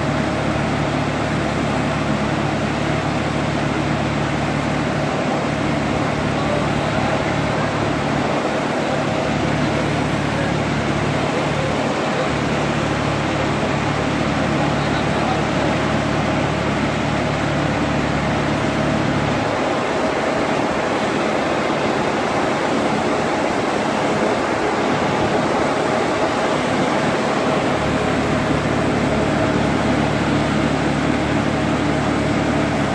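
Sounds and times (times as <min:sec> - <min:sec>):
mist blower fan rushing air: 0:00.0 - 0:32.9
tractor engine humming: 0:00.0 - 0:32.9.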